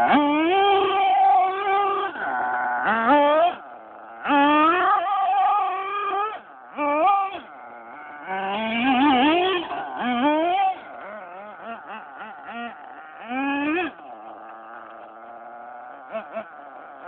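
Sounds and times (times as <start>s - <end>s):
small nitro engine revving: 0.0s - 17.0s.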